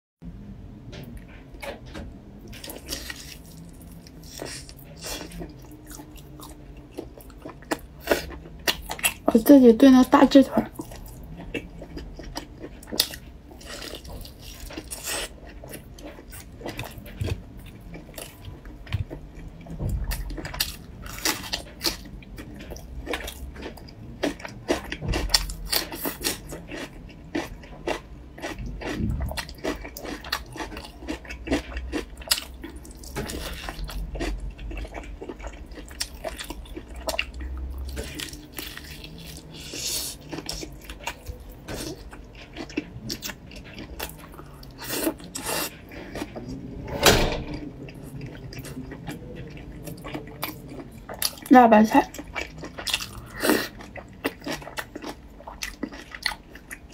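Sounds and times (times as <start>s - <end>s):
chewing and eating mouth sounds: 1.0s - 46.8s, 47.6s - 56.9s.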